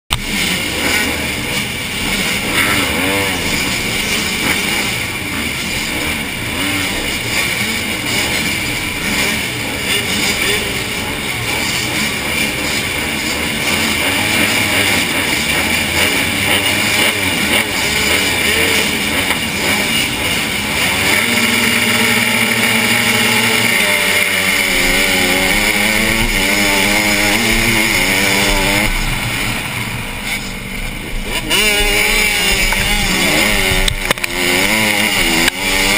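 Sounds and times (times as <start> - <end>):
motocross bikes revving: 0.1 - 35.9.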